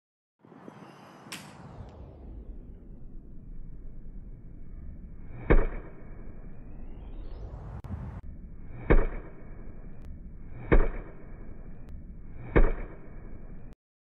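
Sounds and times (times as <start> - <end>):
rising swoosh: 0.4 - 13.6.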